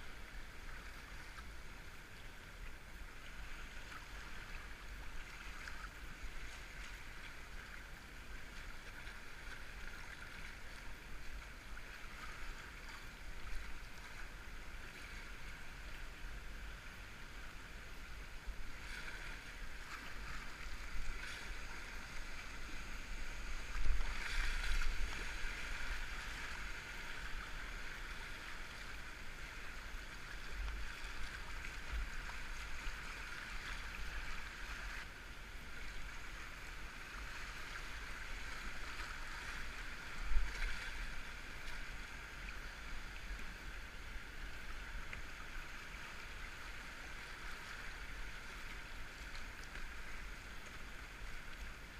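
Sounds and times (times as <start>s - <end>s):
river water splashing around kayak: 0.0s - 51.9s.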